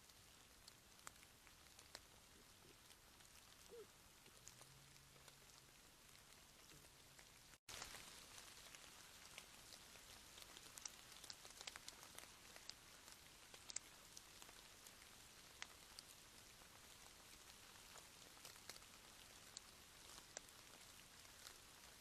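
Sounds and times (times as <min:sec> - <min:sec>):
raindrops ticking: 0:00.0 - 0:22.0
soft rain hiss: 0:00.0 - 0:22.0.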